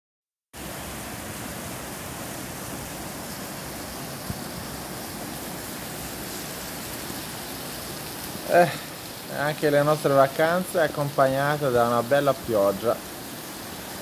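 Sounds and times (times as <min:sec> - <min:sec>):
heavy rain on a street: 0:00.6 - 0:14.0.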